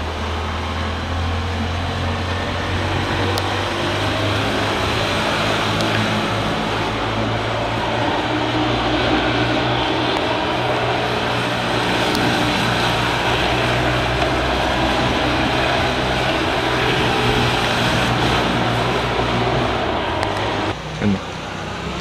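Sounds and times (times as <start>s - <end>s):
rush of noise: 0.0s - 22.0s.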